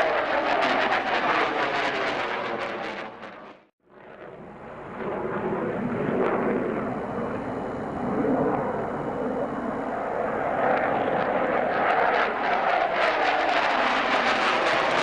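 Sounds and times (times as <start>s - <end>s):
fighter jet engines roaring: 0.0s - 15.0s.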